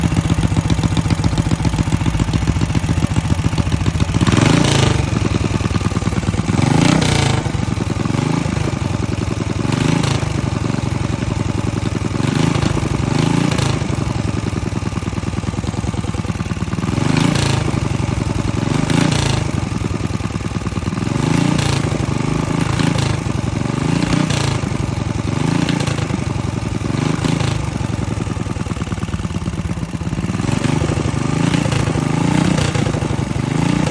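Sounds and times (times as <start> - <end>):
boat engine idling and revving: 0.0 - 33.9.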